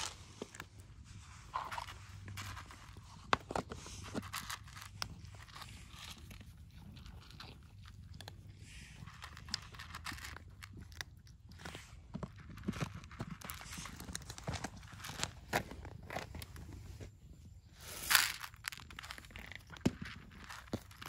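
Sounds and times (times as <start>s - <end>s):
cats crunching food: 0.0s - 21.0s.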